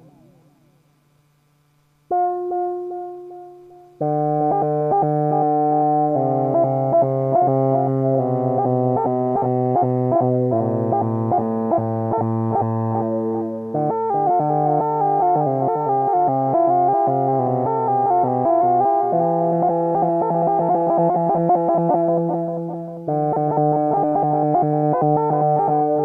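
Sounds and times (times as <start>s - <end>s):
synthesizer notes with delay: 2.1s - 26.0s.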